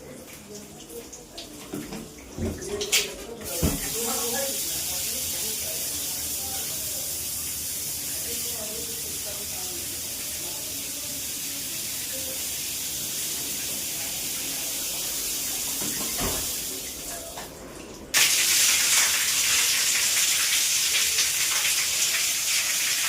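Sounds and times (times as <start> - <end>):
water running from a fixture: 0.0 - 23.0.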